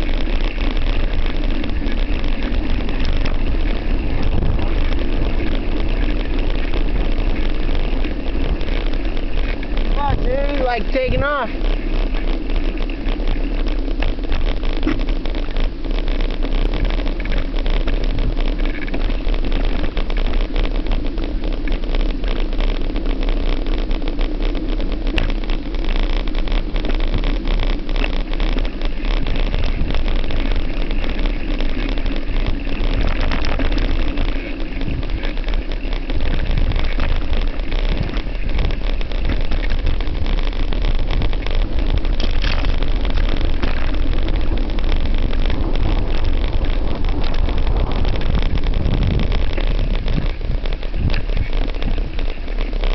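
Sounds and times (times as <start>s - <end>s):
off-road vehicle engine drone: 0.0s - 52.9s.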